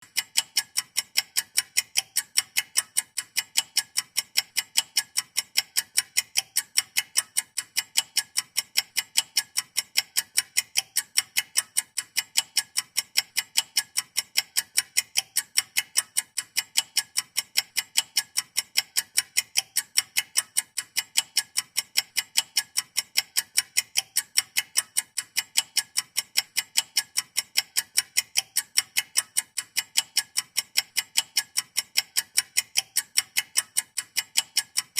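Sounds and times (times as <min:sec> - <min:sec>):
stopwatch ticking: 0:00.0 - 0:34.9.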